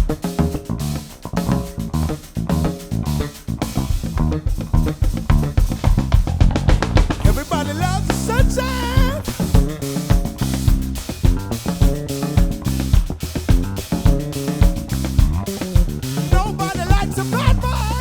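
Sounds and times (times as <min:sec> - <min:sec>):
bass guitar: 0:00.0 - 0:18.0
drum kit beat: 0:00.0 - 0:18.0
guitar: 0:00.0 - 0:18.0.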